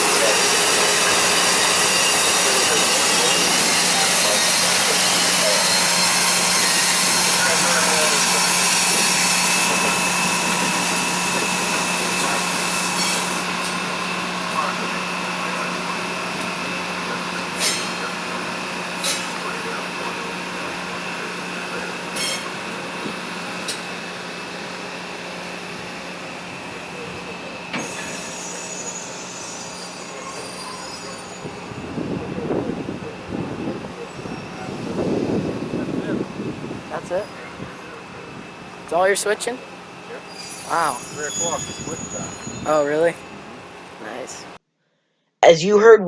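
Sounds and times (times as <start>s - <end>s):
diesel engine running: 0.0s - 44.6s
rail car wheels squealing: 0.0s - 44.6s.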